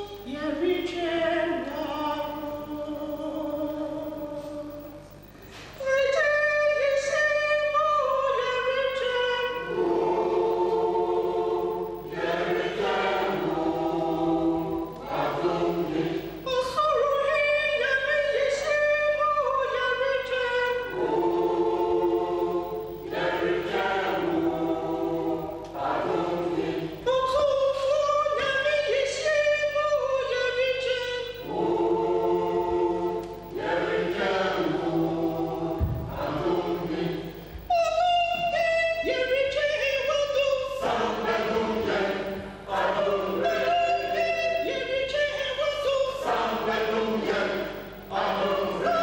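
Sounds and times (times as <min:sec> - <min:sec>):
mixed choir singing gospel: 0:00.0 - 0:49.0.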